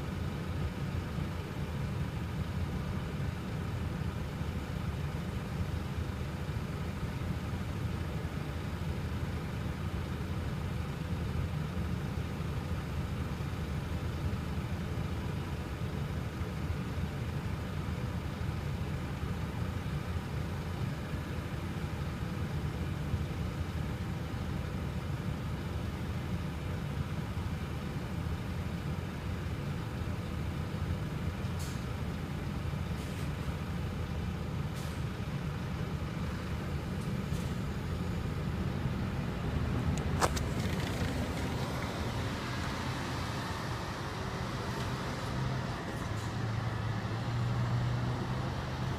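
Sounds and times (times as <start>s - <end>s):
diesel engines idling: 0.0s - 48.9s.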